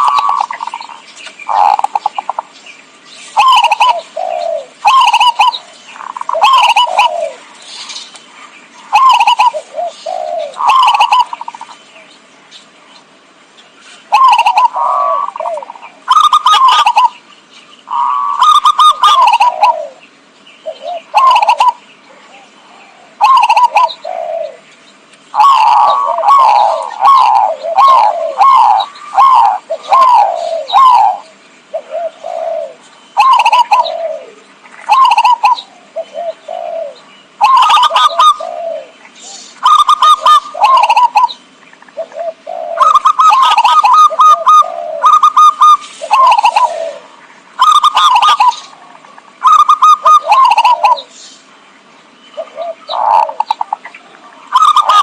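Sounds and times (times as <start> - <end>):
dove cooing: 0.0 - 2.5, 3.3 - 12.0, 14.0 - 17.3, 17.9 - 24.7, 25.3 - 51.2, 52.4 - 55.0.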